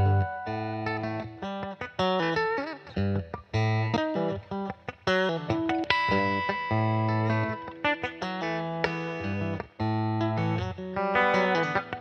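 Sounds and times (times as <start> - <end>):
electric guitar playing blues: 0.0 - 12.0.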